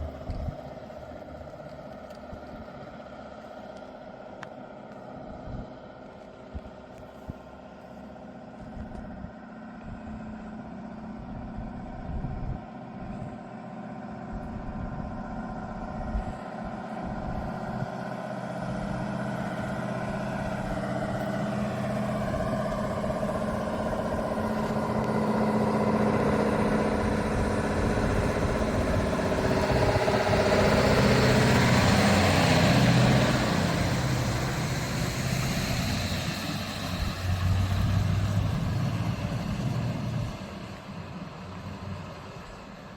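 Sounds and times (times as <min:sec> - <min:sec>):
diesel truck pulling under load: 0:00.0 - 0:42.9.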